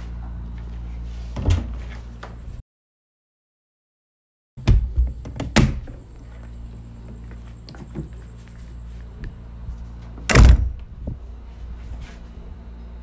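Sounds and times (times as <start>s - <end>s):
low room hum: 0.0s - 2.6s, 4.6s - 13.0s.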